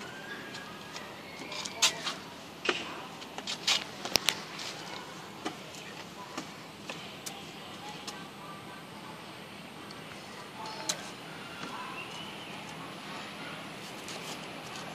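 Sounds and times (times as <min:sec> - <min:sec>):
faint background noise: 0:00.0 - 0:14.9.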